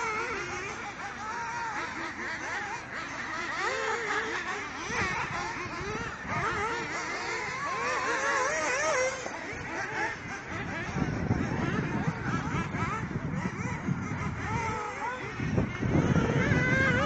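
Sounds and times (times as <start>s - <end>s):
rc buggy engines whining: 0.0s - 17.0s.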